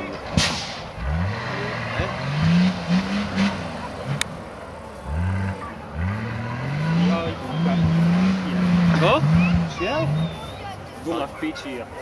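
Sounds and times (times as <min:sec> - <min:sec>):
engine revving hard: 0:00.4 - 0:10.5.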